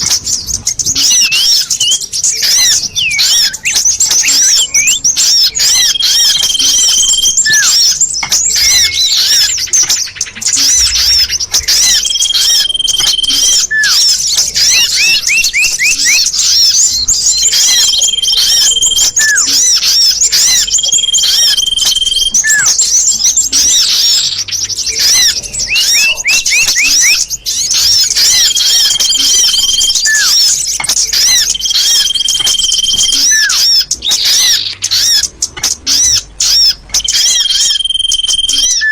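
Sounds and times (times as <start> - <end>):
small birds chattering and chirping: 0.0 - 38.9
steady level whistle: 1.0 - 8.0, 10.6 - 24.3, 25.0 - 33.8, 36.5 - 38.9.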